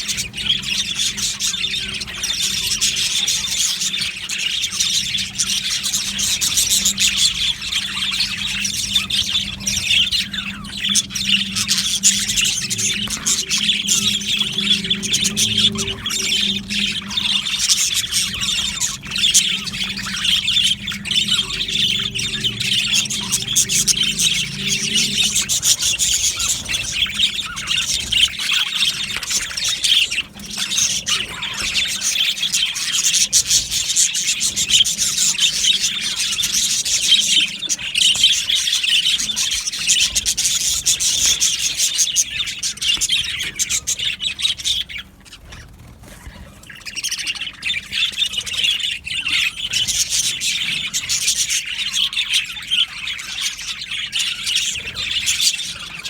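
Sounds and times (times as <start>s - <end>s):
faint low hum: 0.0s - 56.0s
flock of budgerigars chirping: 0.0s - 56.0s.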